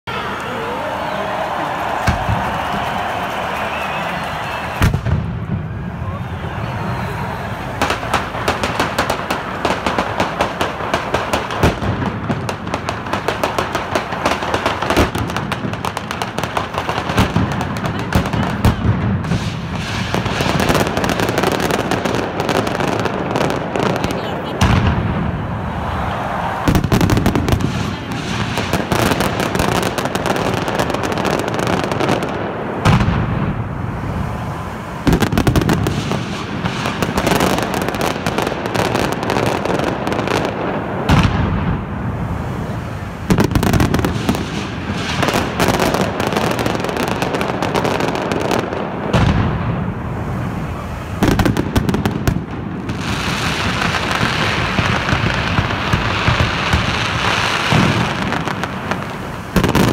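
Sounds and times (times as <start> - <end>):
firecracker barrage: 0.0 - 59.9.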